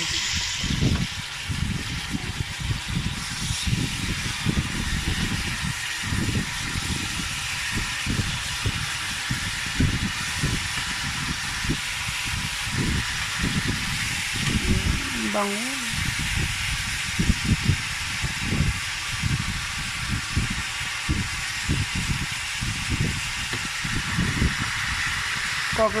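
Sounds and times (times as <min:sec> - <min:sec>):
meat sizzling and spattering in pan: 0:00.0 - 0:15.0, 0:15.9 - 0:25.8.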